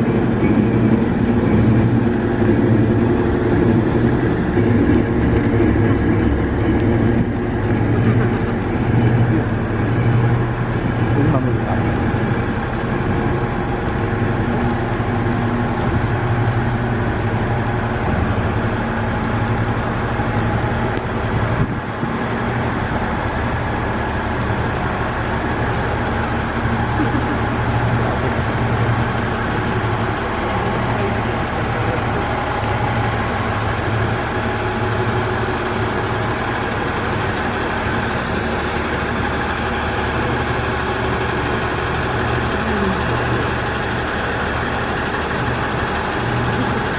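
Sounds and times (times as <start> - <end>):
diesel railcar engine idling: 0.0 - 46.9.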